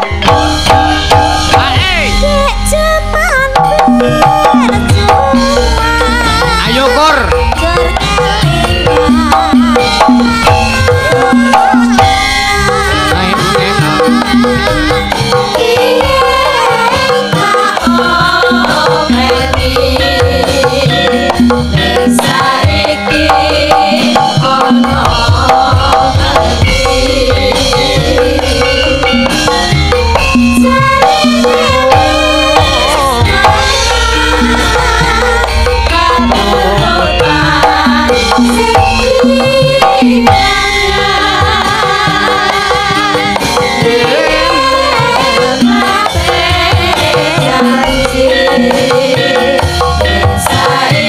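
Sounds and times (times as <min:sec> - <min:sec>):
women singing ornamented melody: 0:00.0 - 0:01.6, 0:02.2 - 0:06.7, 0:07.5 - 0:51.0
hand drum steady beat: 0:00.0 - 0:51.0.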